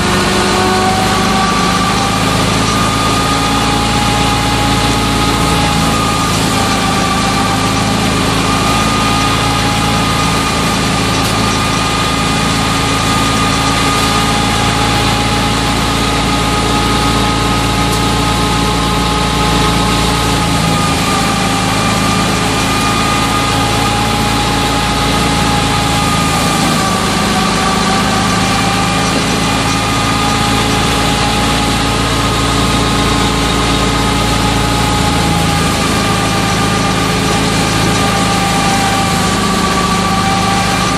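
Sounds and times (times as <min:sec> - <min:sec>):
thresher machine hum with whine: 0:00.0 - 0:40.9.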